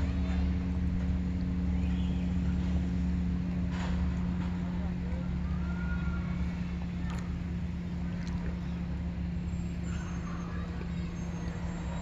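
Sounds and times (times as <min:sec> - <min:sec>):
machinery low drone: 0:00.0 - 0:12.0.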